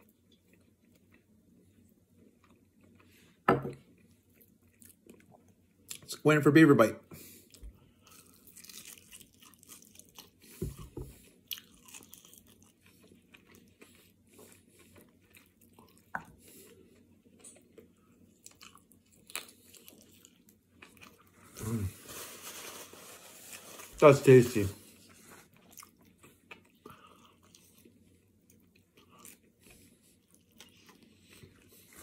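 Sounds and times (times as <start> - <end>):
person chewing crispy chicken: 0.0 - 3.3, 3.9 - 6.1, 7.4 - 22.0, 24.8 - 32.0.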